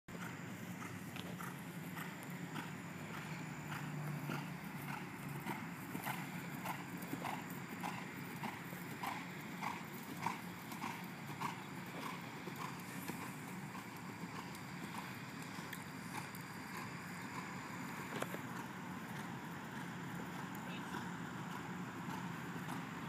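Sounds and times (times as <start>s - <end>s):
horse cantering on grass: 0.1s - 23.0s.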